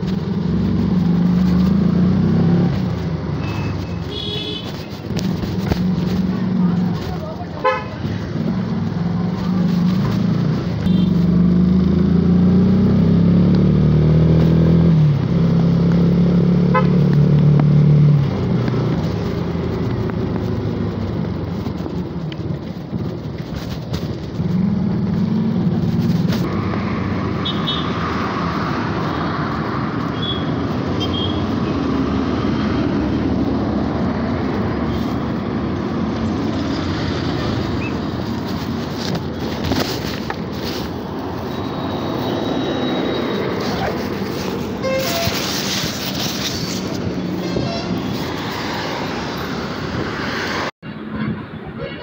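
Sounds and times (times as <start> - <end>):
motorcycle engine revving: 0.0 - 50.7.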